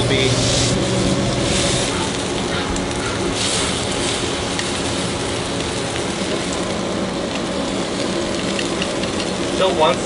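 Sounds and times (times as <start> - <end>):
low hum: 0.0 - 9.6
bacon sizzling on a griddle: 0.0 - 10.0.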